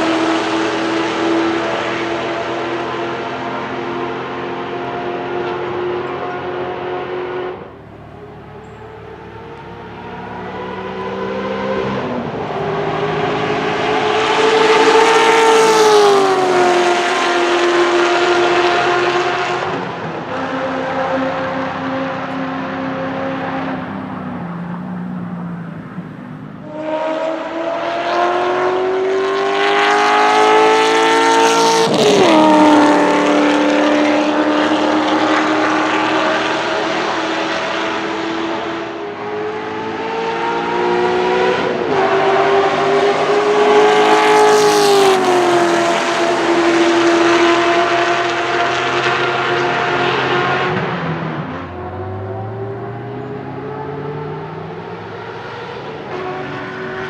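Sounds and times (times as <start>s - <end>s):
sports car engine passing at speed: 0.0s - 57.0s.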